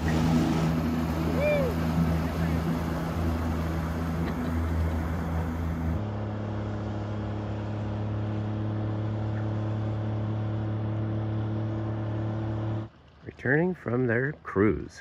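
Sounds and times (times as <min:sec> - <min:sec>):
motorboat engine running: 0:00.0 - 0:14.9
dull engine hum: 0:00.0 - 0:15.0.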